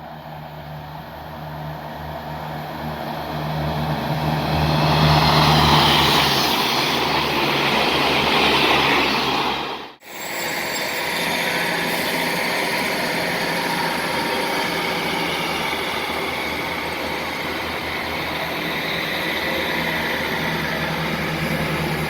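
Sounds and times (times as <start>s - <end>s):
passenger train passing: 0.2s - 22.0s.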